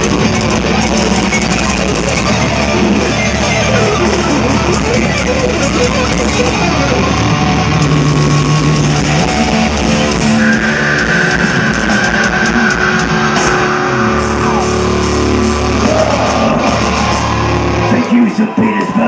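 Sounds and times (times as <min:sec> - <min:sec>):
distorted electric guitars: 0:00.0 - 0:19.0
metal band playing live: 0:00.0 - 0:19.0.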